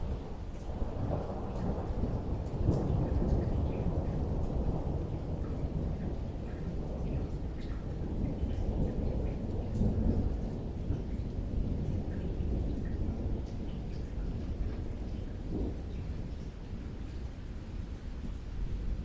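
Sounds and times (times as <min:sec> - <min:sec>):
rolling thunder: 0:00.0 - 0:17.0
raindrops ticking: 0:00.0 - 0:18.5.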